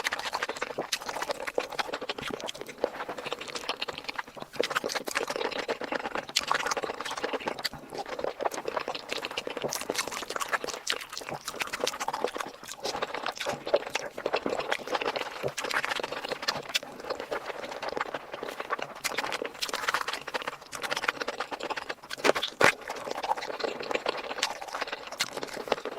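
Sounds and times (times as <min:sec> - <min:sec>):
lip smacks: 0:00.0 - 0:25.9
wet chewing: 0:00.0 - 0:25.9.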